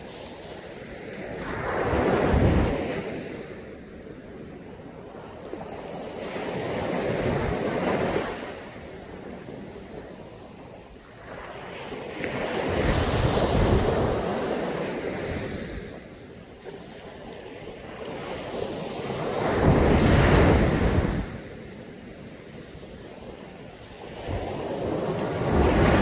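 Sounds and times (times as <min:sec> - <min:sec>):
sea waves breaking on a beach: 0:00.0 - 0:26.0.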